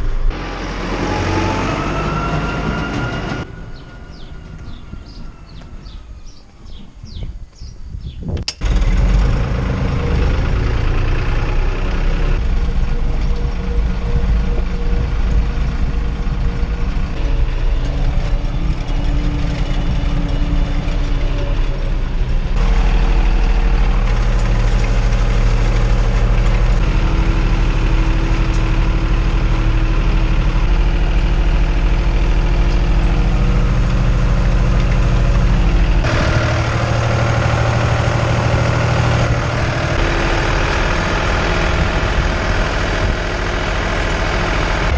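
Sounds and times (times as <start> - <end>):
tractor diesel engine running: 0.0 - 7.7, 8.5 - 44.9.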